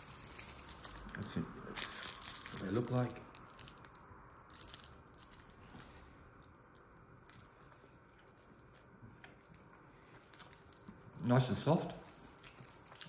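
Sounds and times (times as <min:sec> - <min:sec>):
quiet chewing: 0:00.0 - 0:13.0.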